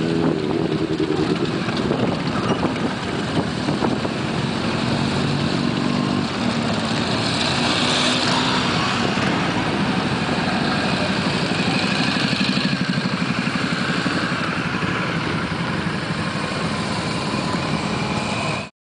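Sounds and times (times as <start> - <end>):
motorcycles riding past: 0.0 - 18.7
pulsing motorcycle engine: 0.0 - 18.7.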